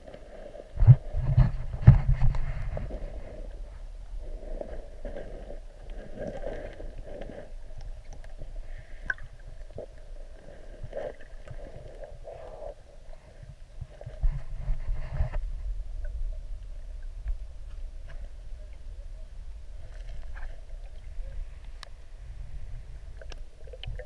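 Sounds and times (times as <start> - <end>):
underwater water rumbling: 0.0 - 24.0.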